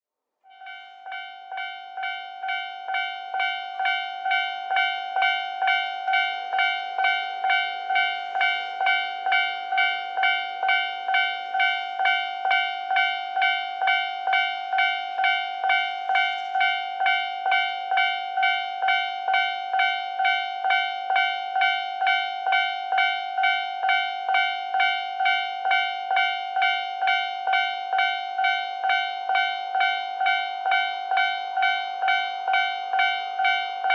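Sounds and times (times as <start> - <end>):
level crossing warning bell: 0.5 - 33.9.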